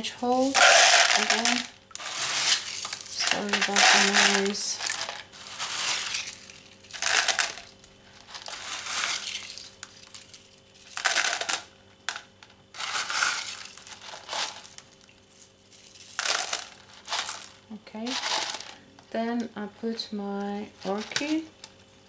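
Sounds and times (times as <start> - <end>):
clay pebbles rattling into pot: 0.0 - 18.9.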